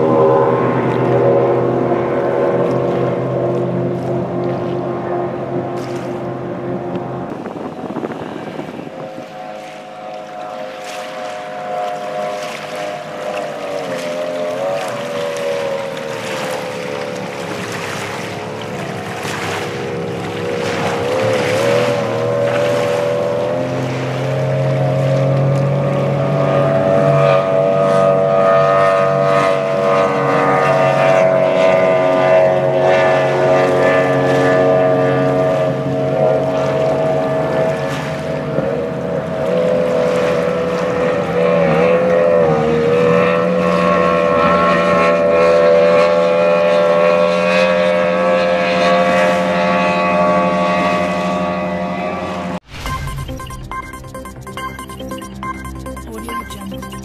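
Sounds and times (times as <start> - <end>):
powerboat engines drone: 0.0 - 57.0.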